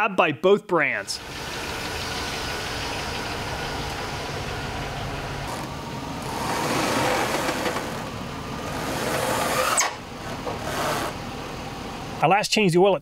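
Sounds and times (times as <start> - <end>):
car engine idling: 1.0 - 12.3.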